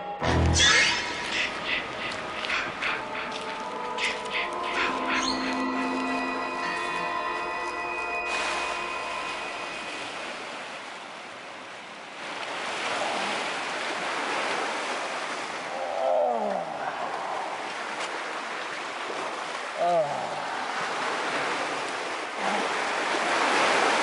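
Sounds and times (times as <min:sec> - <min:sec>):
surf rushing: 0:01.0 - 0:24.0.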